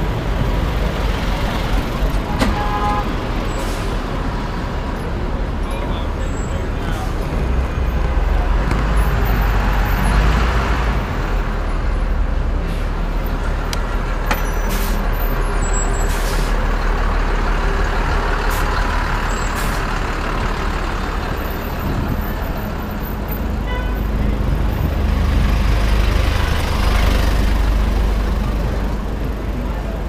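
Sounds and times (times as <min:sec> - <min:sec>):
dense street traffic: 0:00.0 - 0:30.0.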